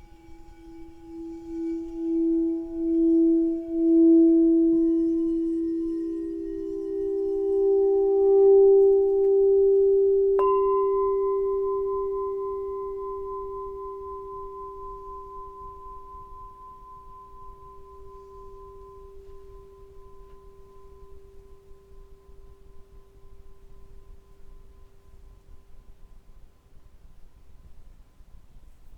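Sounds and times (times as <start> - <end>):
singing bowl strike ringing: 0.0 - 24.9
singing bowl low tone: 0.0 - 26.4.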